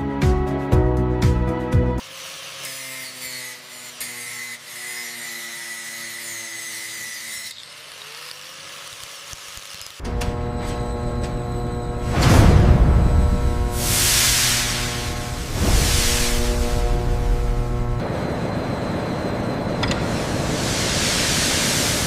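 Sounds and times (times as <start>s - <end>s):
power tool whining and hissing: 2.0s - 22.0s.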